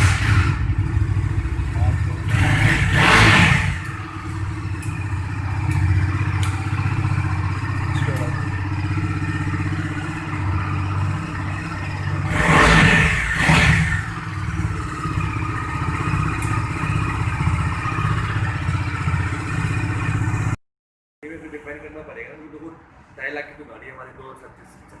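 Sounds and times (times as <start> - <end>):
motorcycle engine idling and revving: 0.0 - 20.6.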